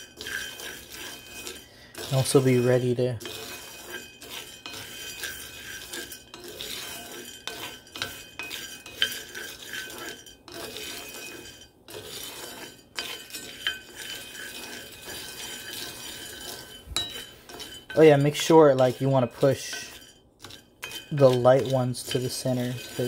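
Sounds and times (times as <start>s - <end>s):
coffee beans rattling in skillet: 0.0s - 23.0s.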